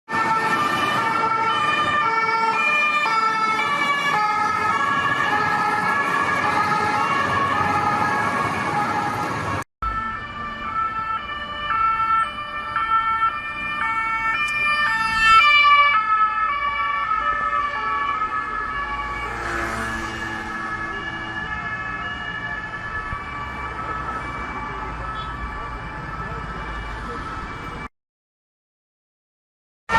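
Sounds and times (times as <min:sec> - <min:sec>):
engine and traffic noise: 0:00.1 - 0:27.9
two-tone police sirens: 0:00.1 - 0:27.9.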